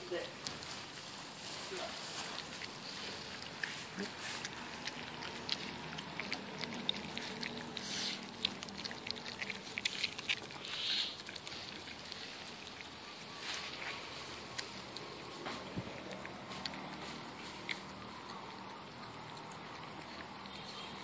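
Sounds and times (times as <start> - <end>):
puppies chewing and smacking: 0.0 - 21.0.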